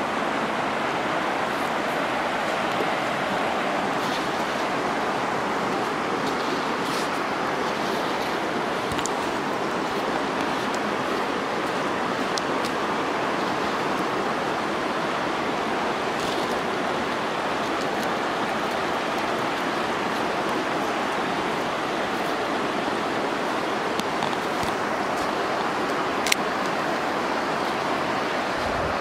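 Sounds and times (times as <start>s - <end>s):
river water over rocky rapids: 0.0s - 29.0s.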